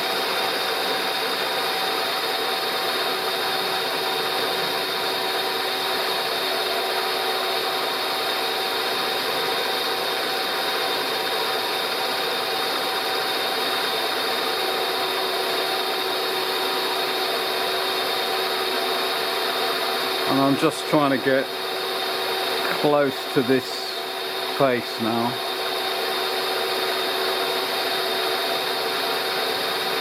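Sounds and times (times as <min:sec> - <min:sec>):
milling machine cutting metal: 0:00.0 - 0:30.0
steady whining tones: 0:00.0 - 0:30.0.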